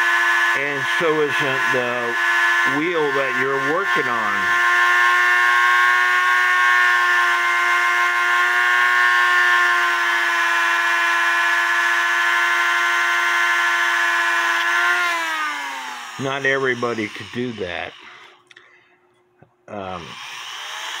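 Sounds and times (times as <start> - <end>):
rotary tool high whine: 0.0 - 18.4, 19.7 - 21.0.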